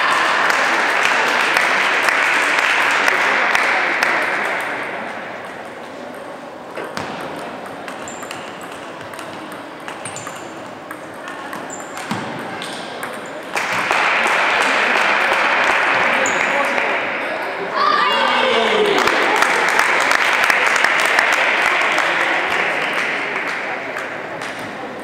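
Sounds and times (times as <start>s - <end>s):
murmur of voices: 0.0s - 25.0s
table tennis ball rally: 0.0s - 25.0s.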